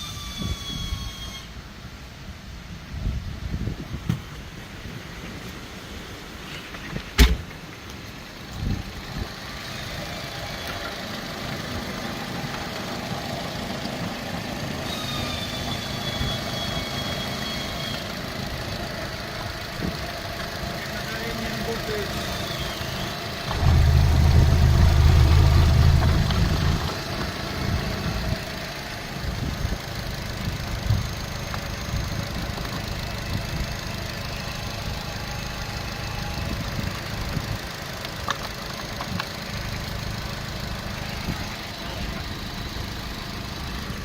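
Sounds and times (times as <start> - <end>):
car engine idling: 7.6 - 44.0.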